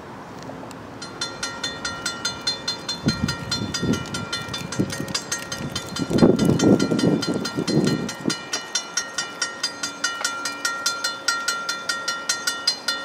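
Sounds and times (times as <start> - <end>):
railroad crossing bell ringing: 1.0 - 13.0.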